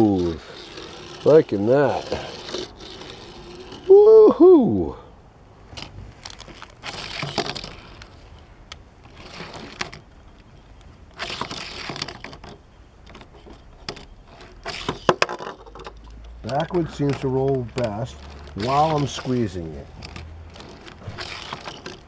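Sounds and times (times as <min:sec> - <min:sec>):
toy car wheels rolling: 0:00.0 - 0:22.0.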